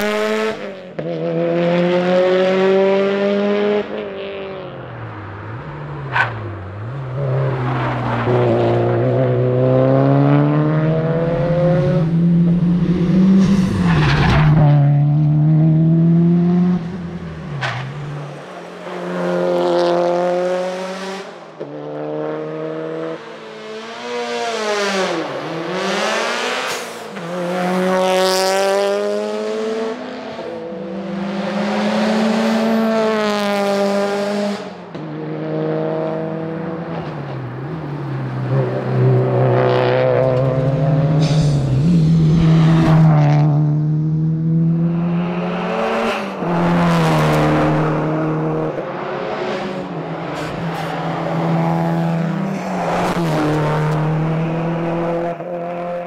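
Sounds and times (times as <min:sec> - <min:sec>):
rally car engine revving past: 0:05.4 - 0:34.7, 0:38.3 - 0:56.0.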